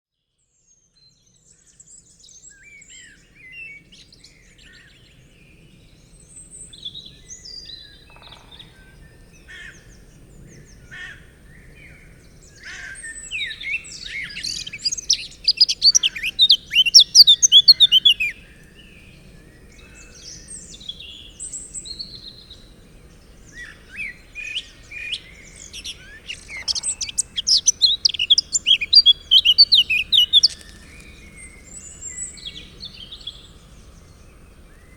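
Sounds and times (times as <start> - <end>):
birds chirping and twittering: 1.9 - 34.9.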